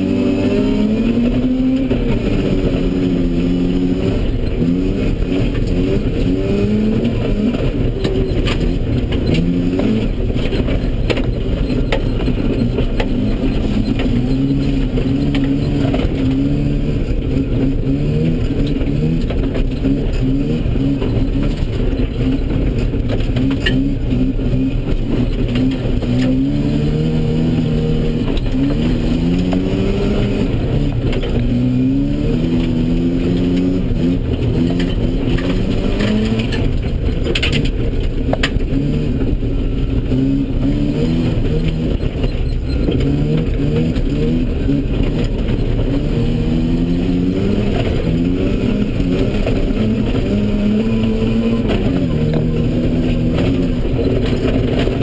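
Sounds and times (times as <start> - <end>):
rotary engine revving: 0.0 - 55.0.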